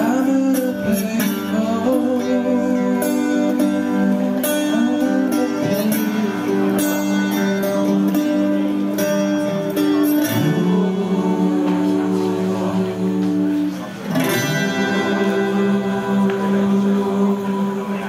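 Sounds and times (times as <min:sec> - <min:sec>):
acoustic guitars strummed: 0:00.0 - 0:18.0
man singing into a microphone: 0:00.0 - 0:18.0.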